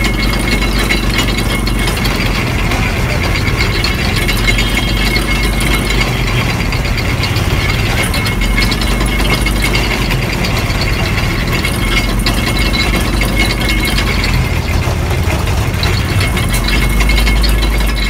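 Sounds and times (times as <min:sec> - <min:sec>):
low motor hum: 0:00.0 - 0:18.0
steel rollers rattling: 0:00.0 - 0:18.0.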